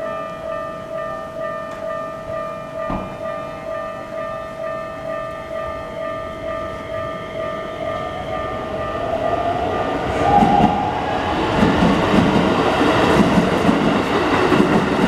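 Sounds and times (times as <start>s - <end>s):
level crossing warning bell: 0.0s - 13.0s
train running noise: 0.0s - 15.0s.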